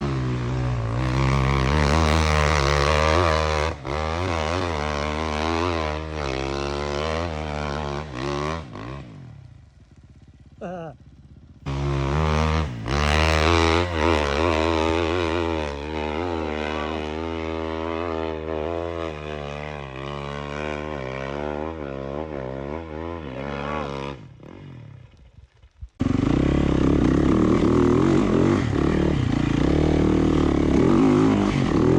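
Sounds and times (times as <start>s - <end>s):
dirt bike engine revving: 0.0s - 25.2s, 26.0s - 31.9s.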